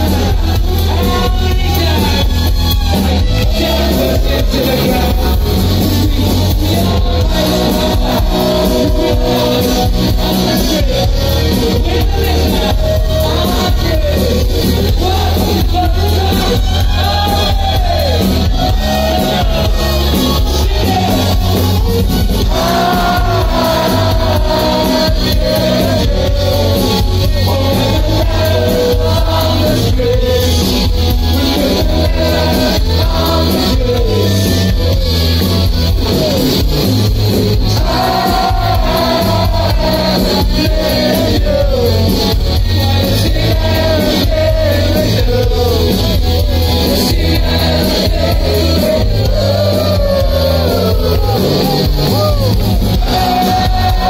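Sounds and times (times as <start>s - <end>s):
live rock band playing: 0.0s - 54.0s
lead singer vocals: 3.0s - 21.7s, 22.4s - 36.6s, 37.3s - 54.0s.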